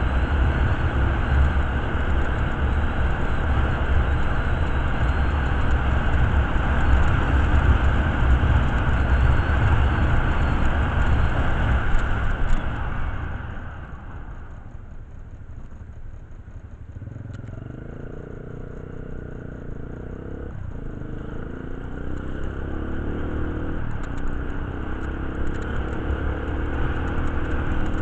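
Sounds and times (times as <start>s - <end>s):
motorcycle running at speed: 0.0s - 28.0s.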